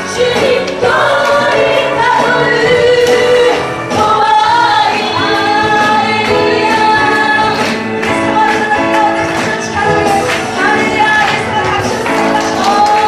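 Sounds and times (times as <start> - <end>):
instrumental backing: 0.0 - 13.0
women singing praise song: 0.0 - 13.0.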